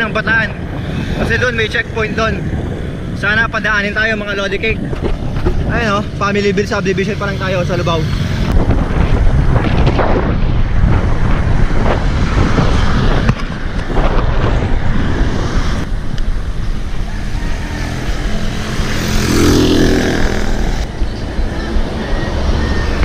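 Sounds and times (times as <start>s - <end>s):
motor traffic passing: 0.0s - 23.0s
wind rushing over microphone: 0.0s - 23.0s.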